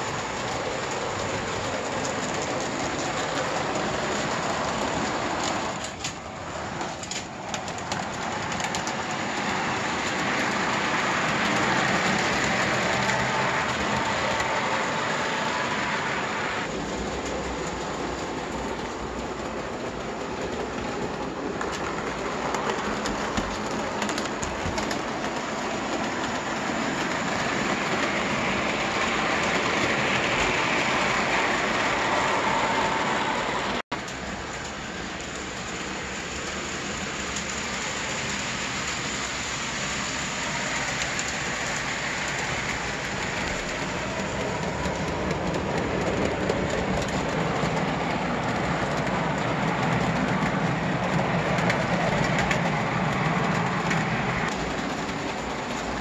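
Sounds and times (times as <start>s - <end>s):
model trains running on metal track: 0.0s - 56.0s.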